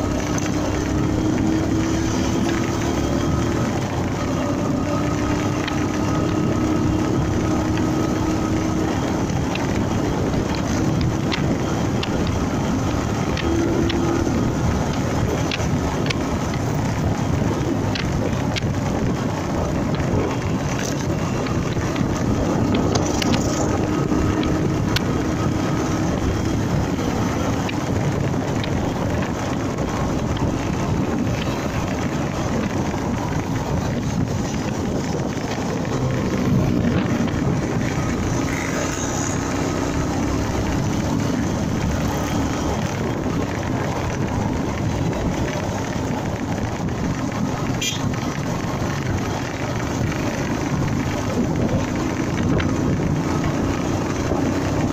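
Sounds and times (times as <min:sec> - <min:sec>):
motorcycle engine running: 0:00.0 - 0:54.9
road noise: 0:00.0 - 0:54.9
wind buffeting microphone: 0:00.0 - 0:54.9.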